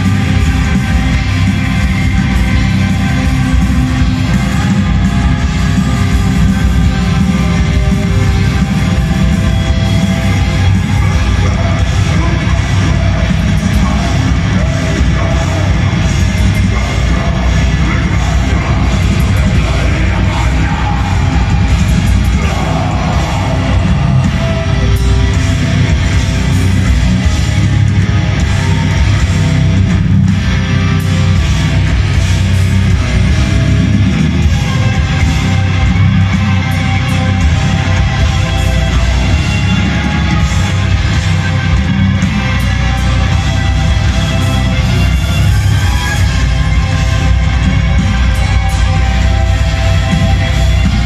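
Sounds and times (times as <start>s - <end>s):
distorted electric guitars: 0.0s - 51.0s
drums: 0.0s - 51.0s
metal band playing live: 0.0s - 51.0s.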